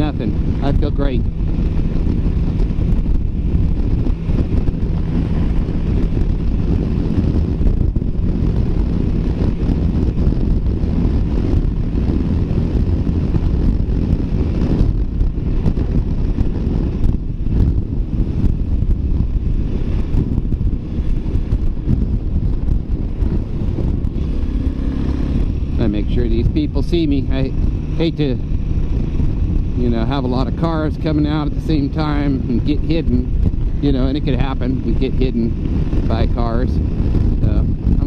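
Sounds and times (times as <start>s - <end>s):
motorcycle engine running: 0.0s - 38.0s
wind rushing over microphone: 0.0s - 38.0s.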